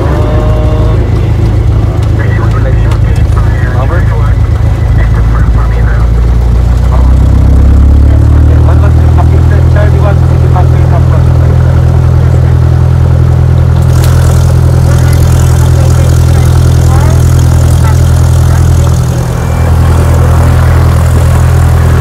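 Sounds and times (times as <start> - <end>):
propeller aircraft engine drone: 0.0 - 22.0.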